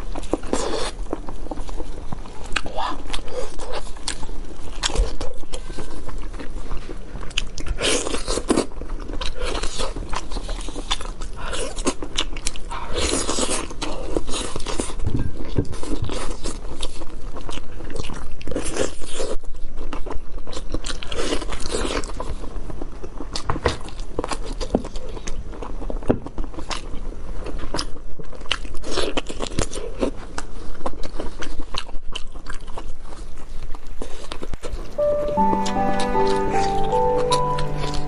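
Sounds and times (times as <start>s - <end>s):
chewing and biting meat: 0.0s - 34.8s.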